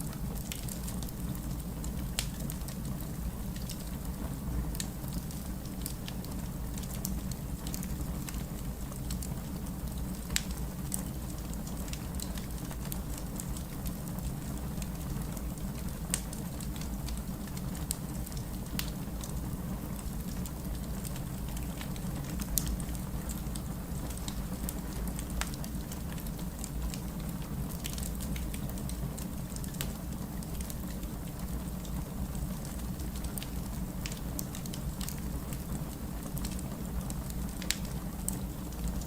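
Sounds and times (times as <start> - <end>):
steady rain: 0.0 - 39.0
wood fire crackling: 0.0 - 39.0.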